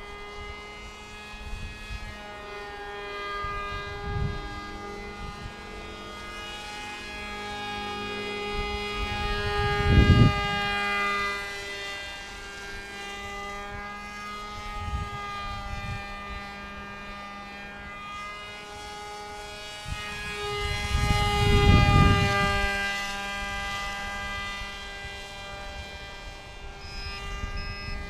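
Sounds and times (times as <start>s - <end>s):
model plane motor whine: 0.0s - 28.0s
wind rumbling on microphone: 0.0s - 28.0s.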